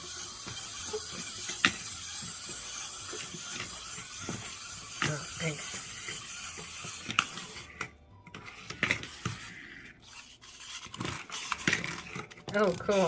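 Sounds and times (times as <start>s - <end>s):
toys and packaging handled: 0.0s - 13.0s.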